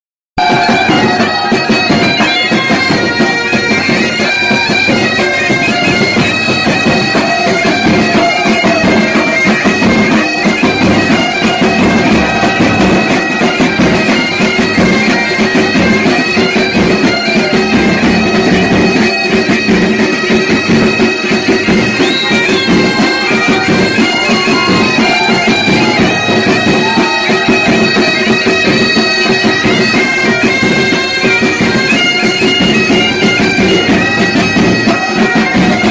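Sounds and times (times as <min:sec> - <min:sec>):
bagpipes playing a tune: 0:00.4 - 0:35.9.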